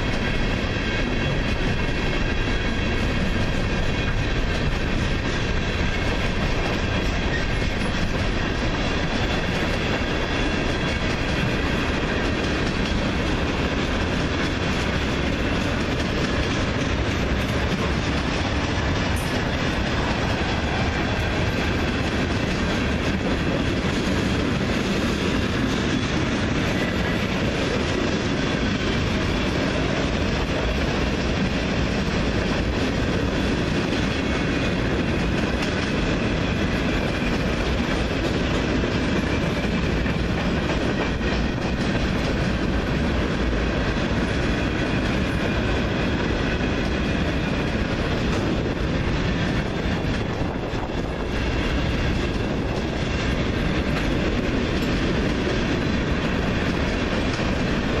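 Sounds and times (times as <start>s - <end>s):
freight train rumbling past: 0.0s - 58.0s
steel wheels clattering over rail joints: 0.0s - 58.0s.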